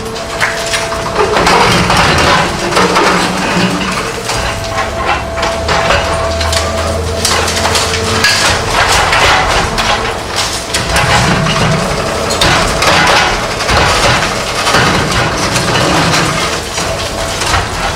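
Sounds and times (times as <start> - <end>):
concrete cracking and crunching: 0.0 - 17.9
machine steady hum: 0.0 - 17.9.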